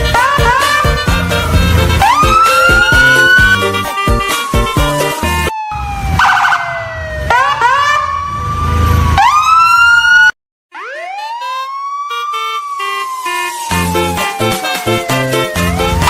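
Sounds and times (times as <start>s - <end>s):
siren-like wails: 0.0s - 16.0s.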